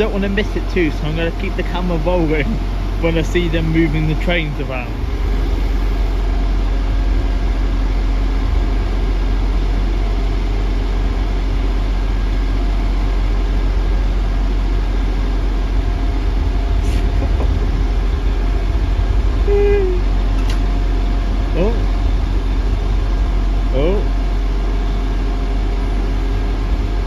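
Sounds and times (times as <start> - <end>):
train engine humming: 0.0 - 27.0.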